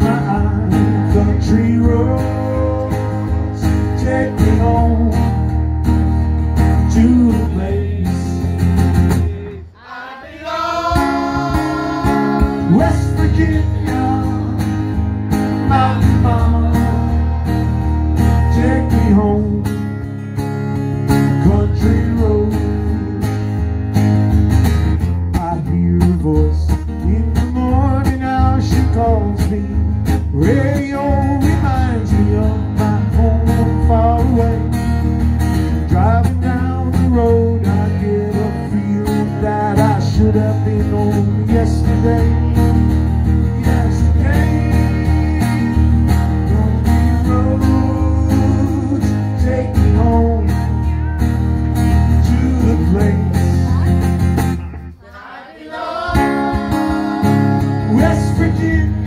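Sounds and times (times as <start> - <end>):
man singing: 0.0 - 5.5, 6.8 - 17.4, 18.2 - 20.4, 21.2 - 23.2, 25.3 - 34.8, 35.8 - 51.0, 52.0 - 54.0, 56.1 - 59.0
acoustic guitar strummed: 0.0 - 59.0.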